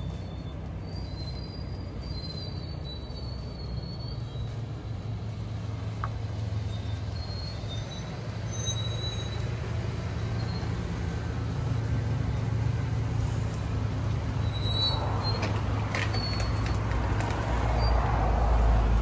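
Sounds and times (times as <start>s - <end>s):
motorhome engine idling: 0.0s - 17.7s.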